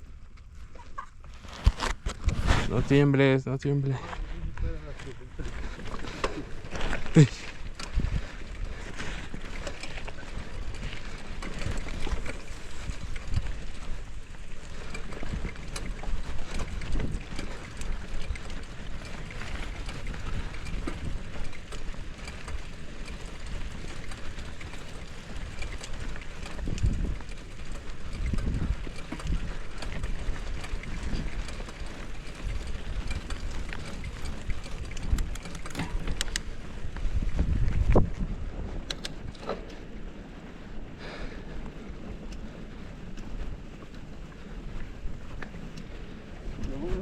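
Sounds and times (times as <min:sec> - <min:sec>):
mountain bike rumbling on dirt: 0:00.0 - 0:47.0
wind buffeting microphone: 0:00.0 - 0:47.0
small clicks and rattles: 0:03.0 - 0:40.6, 0:41.5 - 0:47.0.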